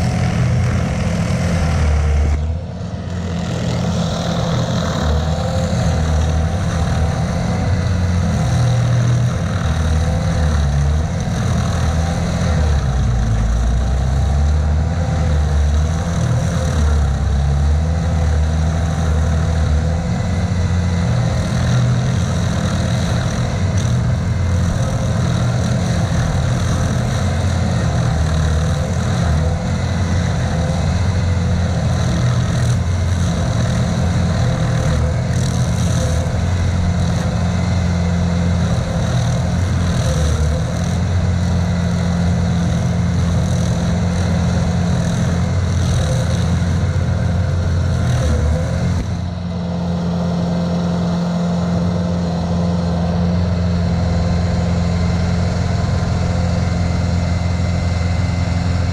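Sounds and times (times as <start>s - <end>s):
cutter wheel grinding stump: 0.0s - 58.9s
stump grinder engine running: 0.0s - 58.9s.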